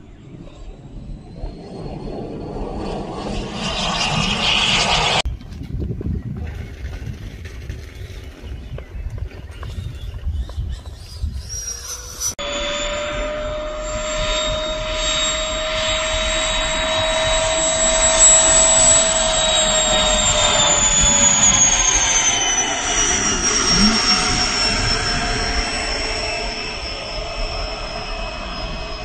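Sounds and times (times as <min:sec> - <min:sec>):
model plane engine whining: 0:00.0 - 0:05.4, 0:06.6 - 0:29.0.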